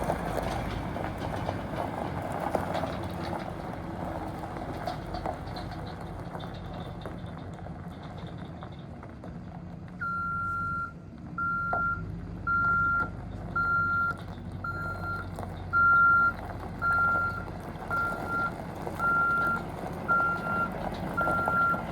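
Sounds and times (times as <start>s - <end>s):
truck engine running: 0.0s - 21.9s.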